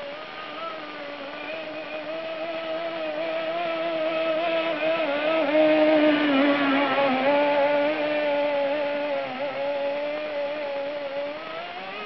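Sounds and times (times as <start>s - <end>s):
small model engine running: 0.0s - 12.0s.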